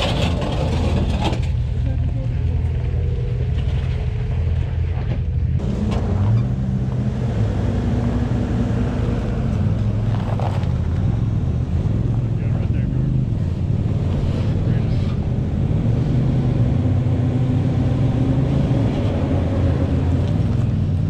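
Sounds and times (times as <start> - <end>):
vehicle engine at low revs: 0.0 - 21.0.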